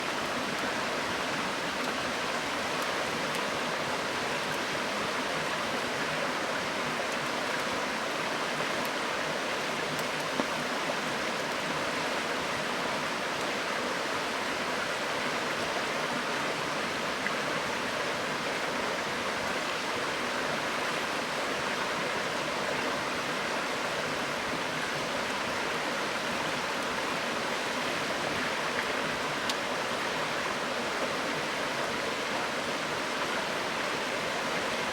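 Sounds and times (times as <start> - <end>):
river flowing: 0.0 - 34.9.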